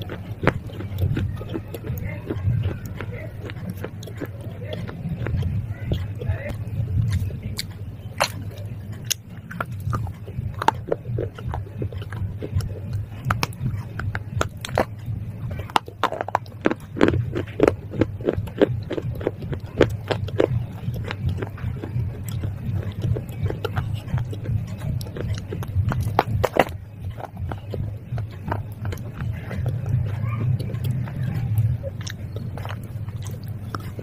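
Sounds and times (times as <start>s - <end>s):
crunching of chewed clay: 0.0s - 34.0s
steady low hum: 0.0s - 34.0s.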